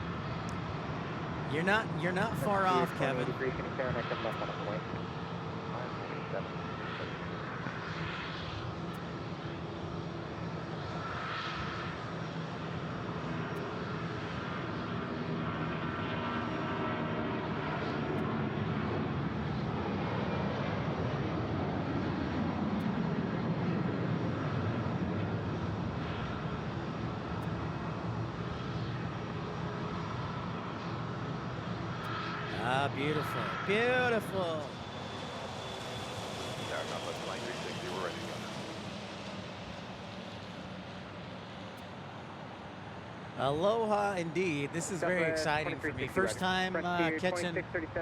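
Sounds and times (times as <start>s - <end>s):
jet airliner engine roar: 0.0s - 48.0s.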